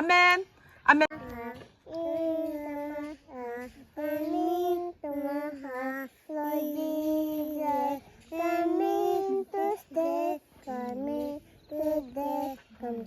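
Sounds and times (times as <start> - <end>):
child singing: 1.1 - 13.0.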